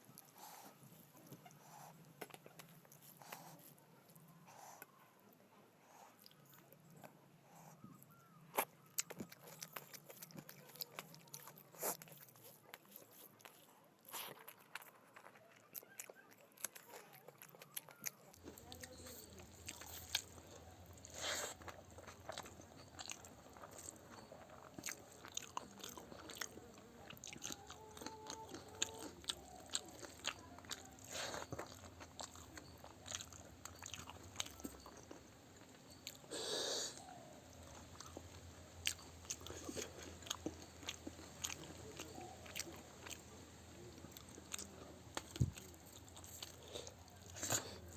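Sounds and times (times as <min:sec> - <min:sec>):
chewing with wet clicks: 0:00.1 - 0:05.4, 0:06.2 - 0:36.3, 0:37.0 - 0:47.9.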